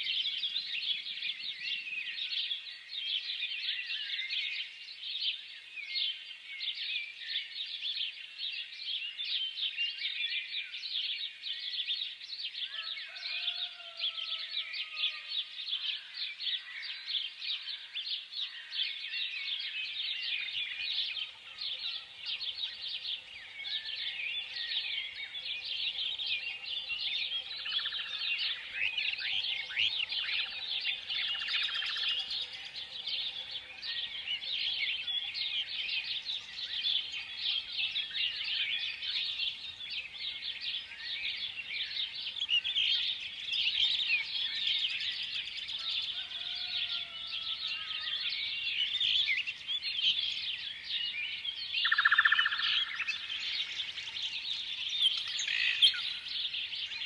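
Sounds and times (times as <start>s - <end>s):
flock of small birds chirping: 0.0s - 57.0s.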